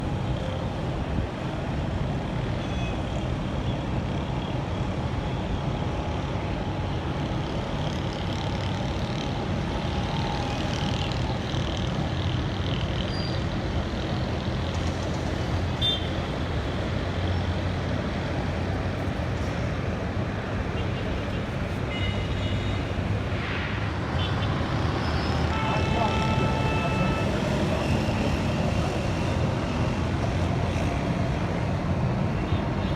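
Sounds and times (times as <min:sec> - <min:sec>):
road traffic rumble: 0:00.0 - 0:32.9.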